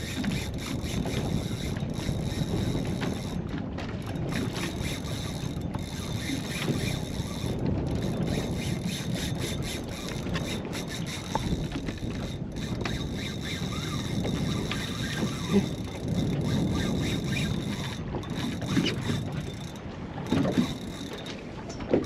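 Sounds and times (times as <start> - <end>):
faint ticks: 0.0 - 22.0
sea water washing against hull: 0.0 - 22.0
wind on microphone: 0.0 - 22.0.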